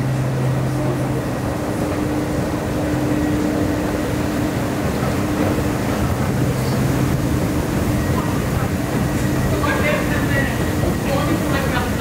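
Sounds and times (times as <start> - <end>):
escalator machinery hum: 0.0 - 12.0.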